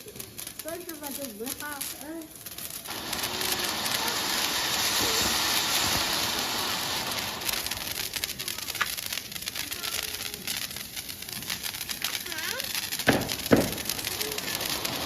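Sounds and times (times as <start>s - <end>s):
crackling pops: 0.0s - 15.0s
firework hissing: 0.0s - 15.0s.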